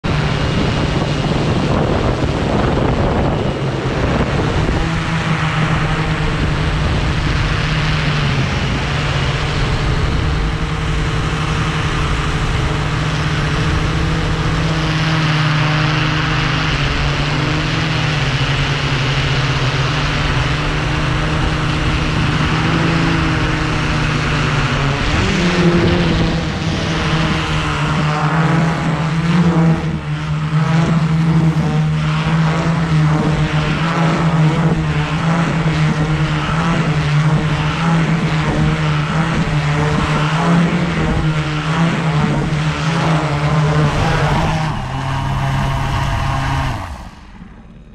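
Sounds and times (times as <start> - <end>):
drone motors and propellers humming: 0.0 - 47.9.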